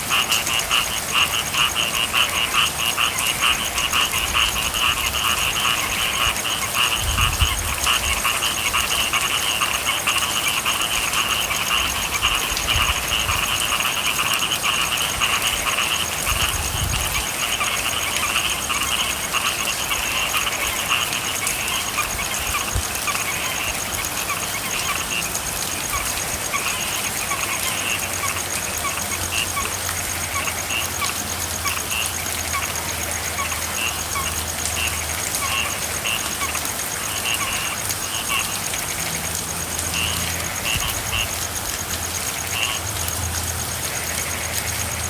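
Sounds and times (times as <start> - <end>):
frogs calling: 0.0 - 45.0
steady rainfall: 0.0 - 45.0.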